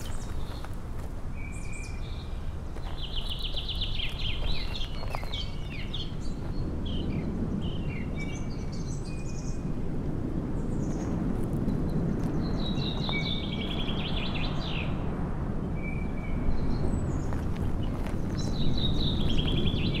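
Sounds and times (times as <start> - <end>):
low rushing background noise: 0.0 - 20.0.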